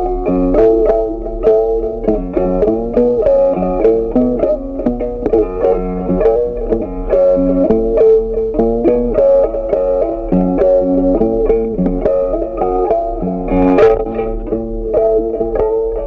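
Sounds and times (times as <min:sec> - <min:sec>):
plucked string instrumental music: 0:00.0 - 0:16.0.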